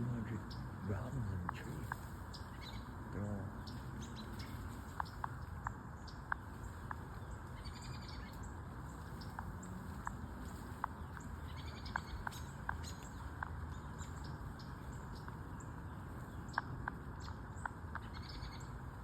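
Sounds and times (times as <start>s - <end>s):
low background rumble: 0.0s - 19.0s
robins calling: 0.0s - 19.0s.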